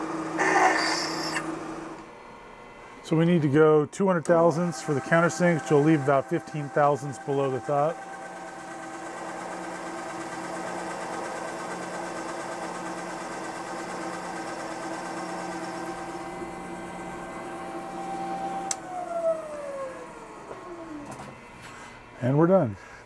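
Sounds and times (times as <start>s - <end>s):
drill cutting into metal: 0.0s - 1.6s, 4.3s - 21.2s
milling machine spindle whine: 0.0s - 22.4s.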